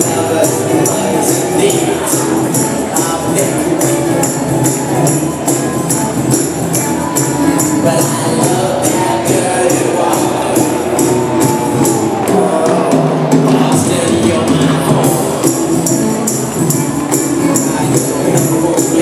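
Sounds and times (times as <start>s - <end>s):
tambourine strokes: 0.0s - 12.3s, 15.1s - 19.0s
music with steady beat: 0.0s - 19.0s.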